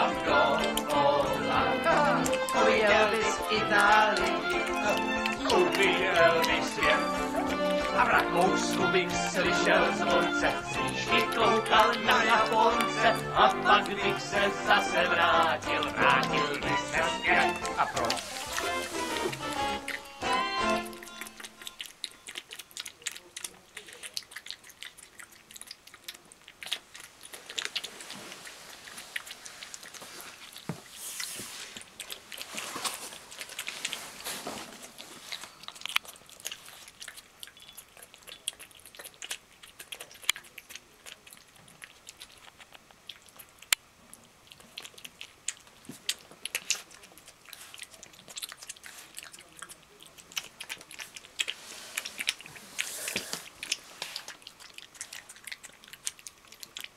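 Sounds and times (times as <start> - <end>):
animal chewing food: 0.0 - 56.9.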